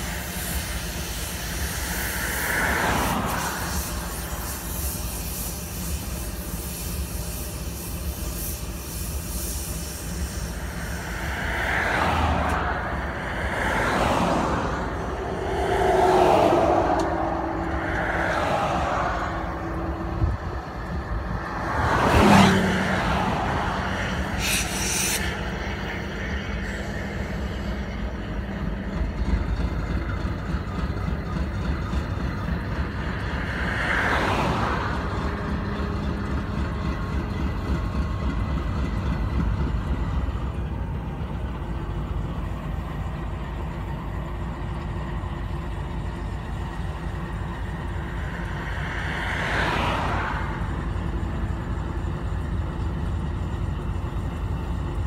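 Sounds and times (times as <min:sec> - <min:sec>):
steady low rumble: 0:00.0 - 0:55.0
vehicles passing close by: 0:00.0 - 0:55.0.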